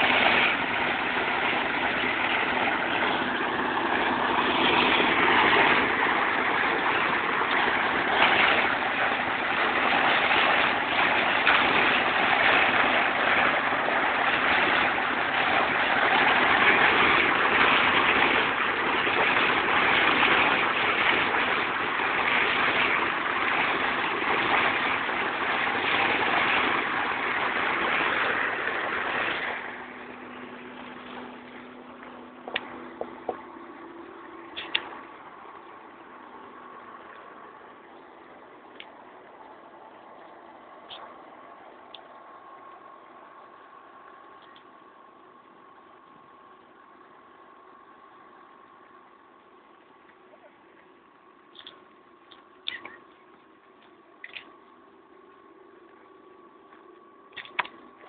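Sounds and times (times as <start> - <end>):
constant low hum: 0.0 - 58.0.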